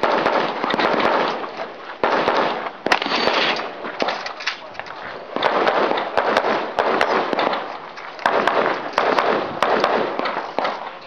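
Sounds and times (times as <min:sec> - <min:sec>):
gunshots with trailing echo: 0:00.0 - 0:04.2, 0:05.1 - 0:11.0.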